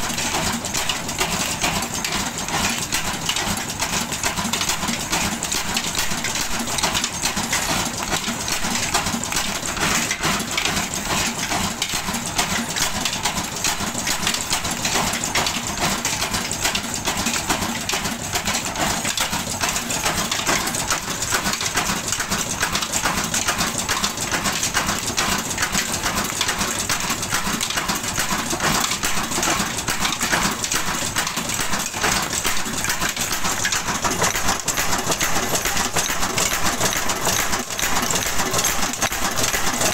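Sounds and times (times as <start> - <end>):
metallic clatter: 0.0 - 39.9.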